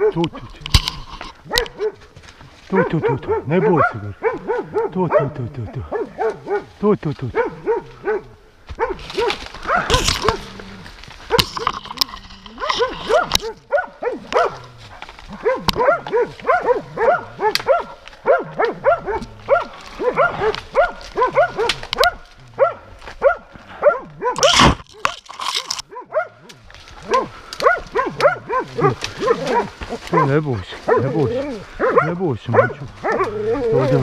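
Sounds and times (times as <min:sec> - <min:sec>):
dog barking rapidly: 0:01.4 - 0:02.0, 0:02.7 - 0:10.4, 0:12.6 - 0:14.6, 0:15.3 - 0:25.2, 0:25.8 - 0:34.0.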